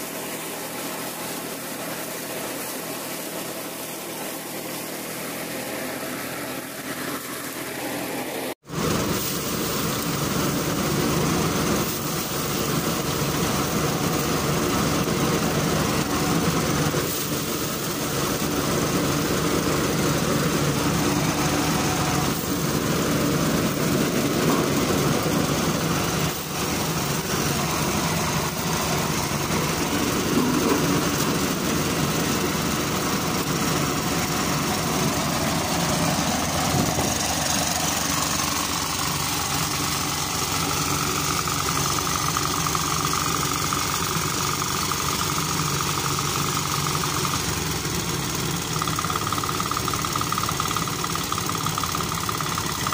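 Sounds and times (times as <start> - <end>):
small engine drone: 0.0 - 52.9
threshing drum whirring: 0.0 - 52.9.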